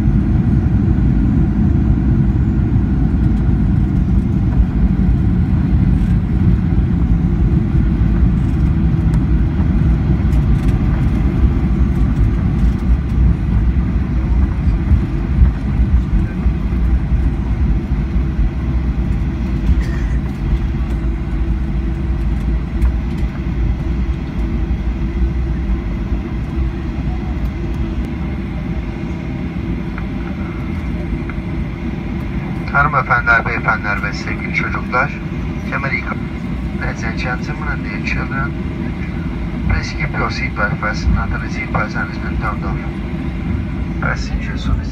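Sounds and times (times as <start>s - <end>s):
aircraft cabin rumble: 0.0s - 44.9s.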